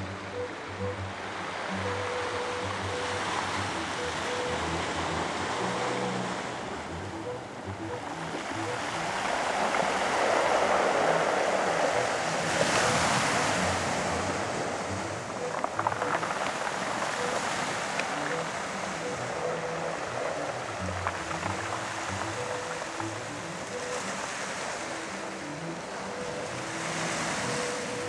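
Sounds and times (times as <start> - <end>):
surf breaking on rocky shore: 0.0 - 28.0.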